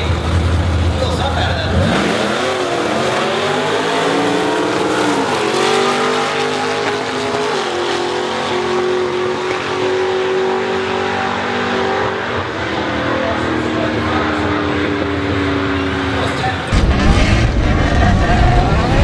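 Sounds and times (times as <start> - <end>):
car engine at full throttle: 0.0 - 19.0
second car engine: 0.0 - 19.0.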